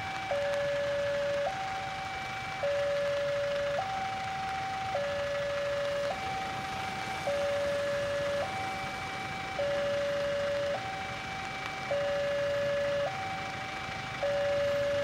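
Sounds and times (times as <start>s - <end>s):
level crossing two-tone alarm: 0.0s - 15.0s.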